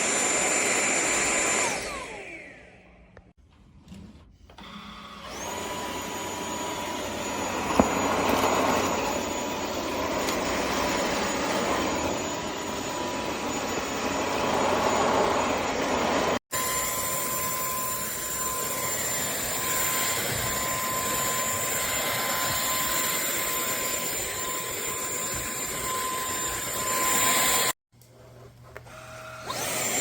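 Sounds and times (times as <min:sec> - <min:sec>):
vacuum motor whining: 0:00.0 - 0:02.8, 0:04.6 - 0:27.8, 0:28.7 - 0:30.0.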